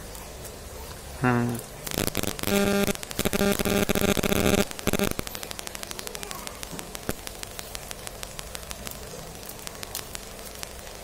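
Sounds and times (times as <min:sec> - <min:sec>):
dense crackling clicks: 0:00.0 - 0:11.0
buzzing hum: 0:01.2 - 0:11.0
faint static ticks: 0:01.8 - 0:11.0.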